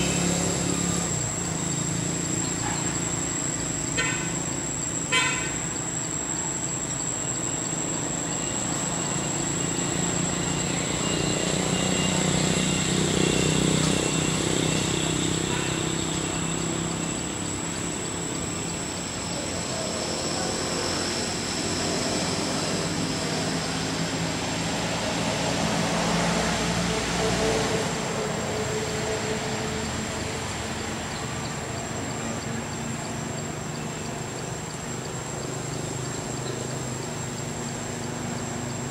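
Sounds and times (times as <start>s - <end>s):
high-pitched insect drone: 0.0s - 38.9s.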